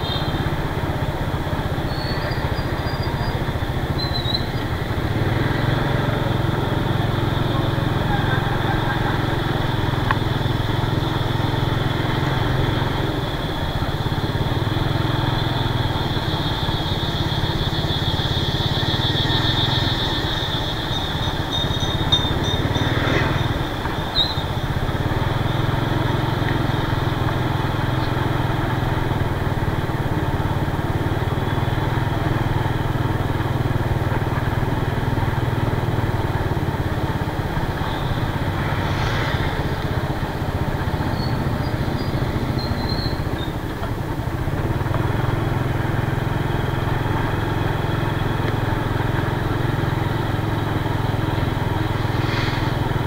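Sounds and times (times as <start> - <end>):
road noise: 0.0 - 53.0
scooter engine running: 0.0 - 53.0.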